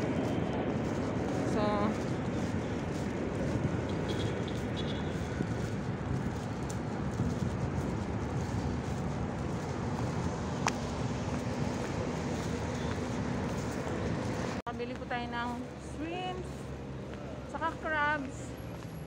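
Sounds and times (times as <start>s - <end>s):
city traffic noise: 0.0s - 19.0s.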